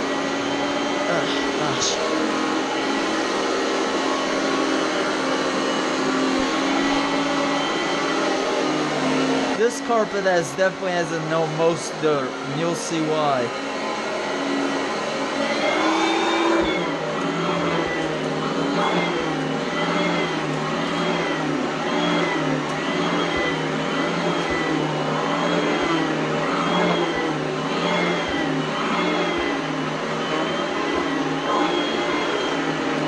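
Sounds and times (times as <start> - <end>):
vacuum cleaner motor whine: 0.0 - 33.0.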